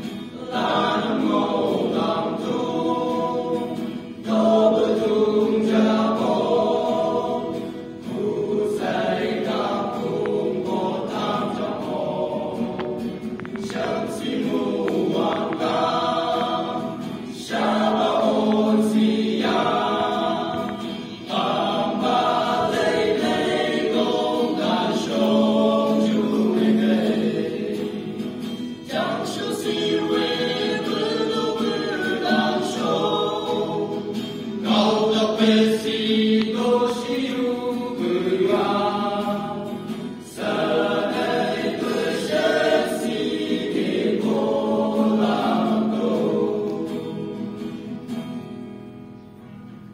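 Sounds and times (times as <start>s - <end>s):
male vocal group singing: 0.0s - 47.9s
acoustic guitar: 0.0s - 49.9s.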